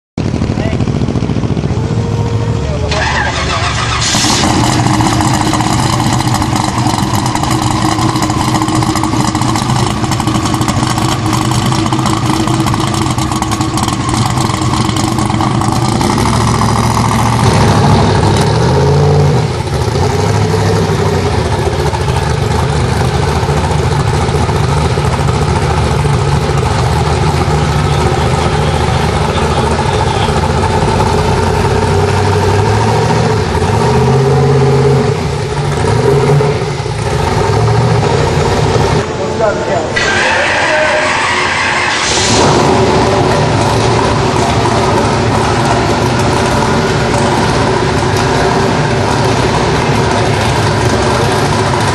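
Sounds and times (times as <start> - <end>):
car engine idling: 0.2 - 51.9
engine revving: 0.2 - 51.9.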